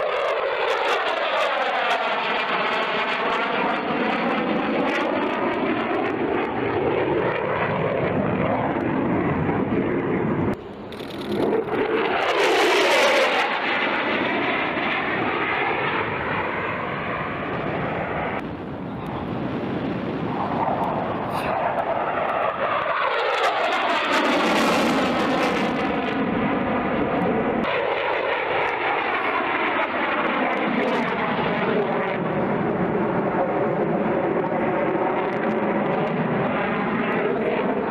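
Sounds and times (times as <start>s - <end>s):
jet engine roaring past: 0.0s - 37.9s.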